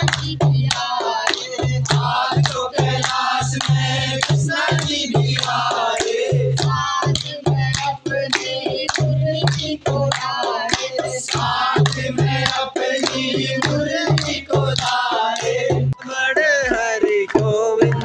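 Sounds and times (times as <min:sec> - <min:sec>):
drum beat: 0:00.0 - 0:18.0
group singing devotional song: 0:00.0 - 0:18.0
rhythmic hand clapping: 0:00.0 - 0:18.0.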